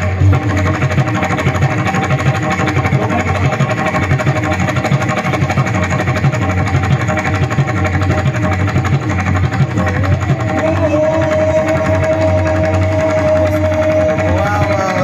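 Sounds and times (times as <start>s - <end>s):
mridang drum fast strokes: 0.0s - 15.0s.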